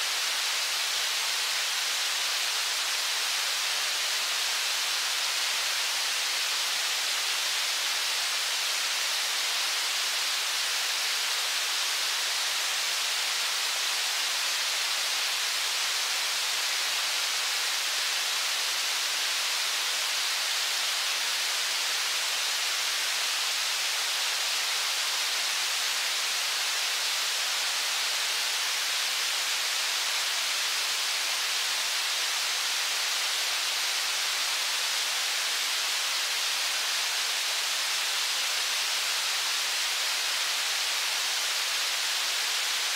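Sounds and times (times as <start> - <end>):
river water rushing over rapids: 0.0 - 42.9.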